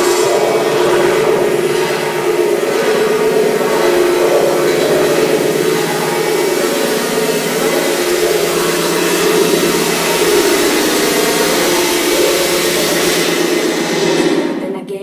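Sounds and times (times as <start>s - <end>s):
buzzy drone: 0.0s - 15.0s
dense electronic noise: 0.0s - 15.0s.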